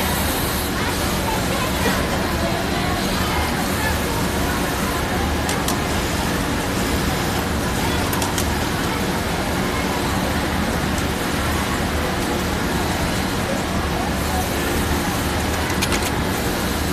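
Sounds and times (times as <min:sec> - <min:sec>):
industrial sewing machines running: 0:00.0 - 0:16.9.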